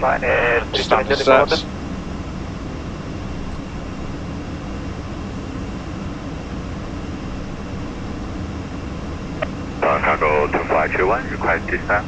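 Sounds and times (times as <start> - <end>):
faint steady hum: 0.0 - 12.0
jet cockpit airflow and engine noise: 0.0 - 12.0.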